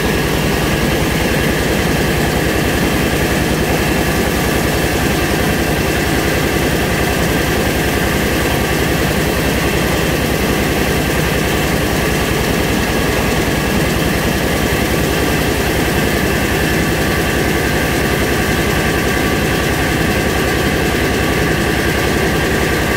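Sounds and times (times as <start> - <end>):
high whine of milling machinery: 0.0 - 22.9.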